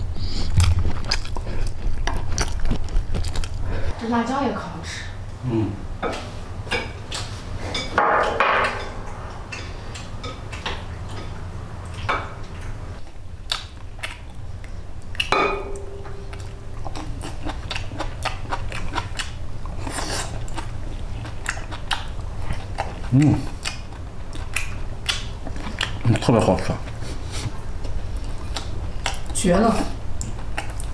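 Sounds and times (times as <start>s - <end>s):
person chewing: 0.0s - 4.0s, 8.7s - 30.9s
steady low hum: 0.0s - 30.9s.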